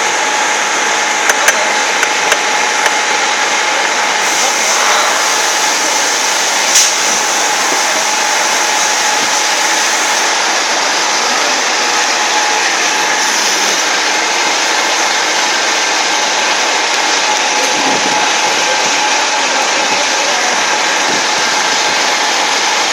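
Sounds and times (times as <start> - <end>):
grinder running: 0.7 - 22.9.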